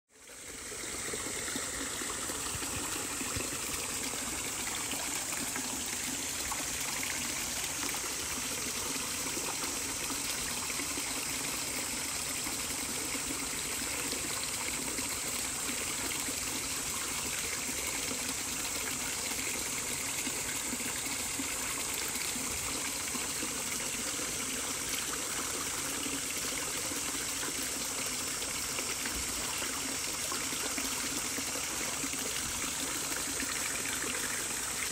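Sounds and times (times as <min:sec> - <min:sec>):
water flowing: 0:00.1 - 0:34.9.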